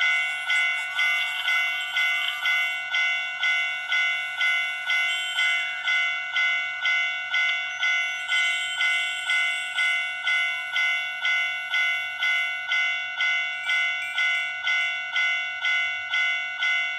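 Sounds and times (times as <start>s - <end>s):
electronic bell tone: 0.0s - 16.9s.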